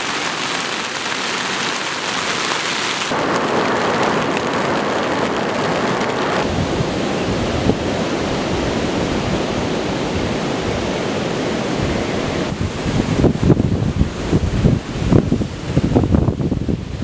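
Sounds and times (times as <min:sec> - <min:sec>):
heavy surf breaking on shore: 0:00.0 - 0:16.1
wind gusts buffeting microphone: 0:03.0 - 0:17.0.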